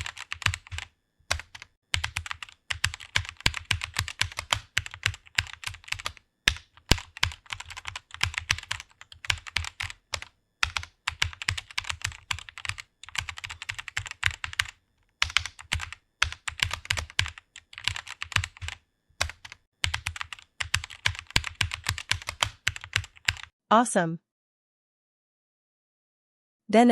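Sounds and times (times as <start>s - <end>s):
fast typing on keyboard: 0.0s - 23.5s.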